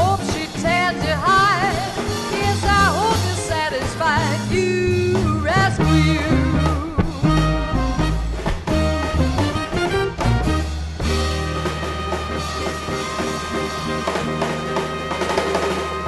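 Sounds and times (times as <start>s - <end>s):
swing band playing: 0.0s - 16.0s.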